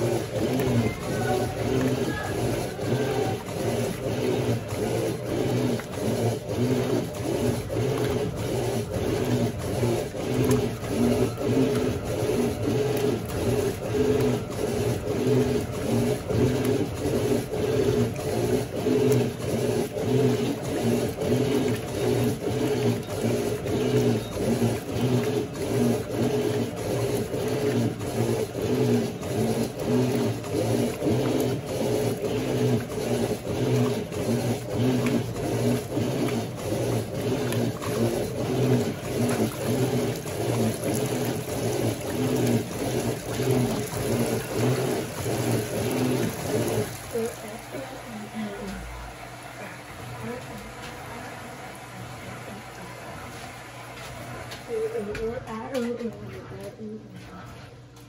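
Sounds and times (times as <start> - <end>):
washing machine agitating: 0.0 - 58.0.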